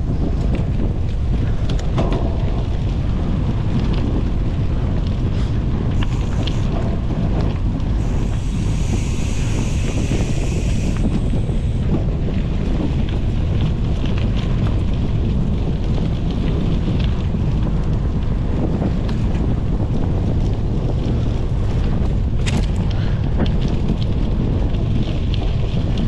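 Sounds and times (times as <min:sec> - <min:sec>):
tyres rolling over gravel: 0:00.0 - 0:26.0
wind on microphone: 0:00.0 - 0:26.0.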